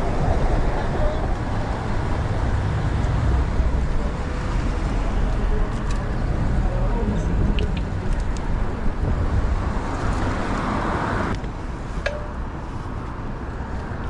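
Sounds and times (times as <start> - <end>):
city street traffic: 0.0 - 14.0
wind rushing over microphone: 0.0 - 14.0.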